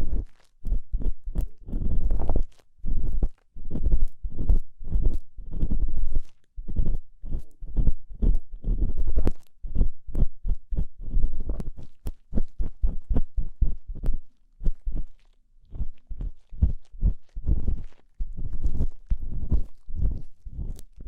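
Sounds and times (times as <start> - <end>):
ear-cleaning tool scraping microphone: 0.0 - 21.0.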